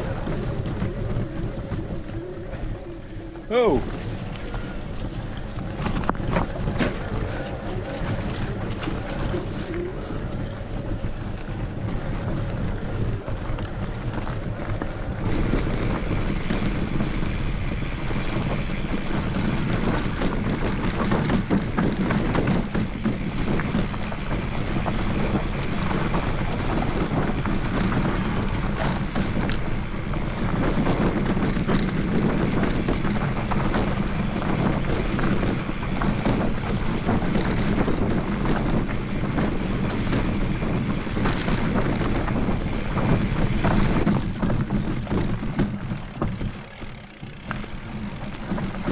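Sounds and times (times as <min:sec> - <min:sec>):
bike frame rattling: 0:00.0 - 0:48.9
bike tyres rolling: 0:00.0 - 0:48.9
wind rushing over microphone: 0:00.0 - 0:48.9.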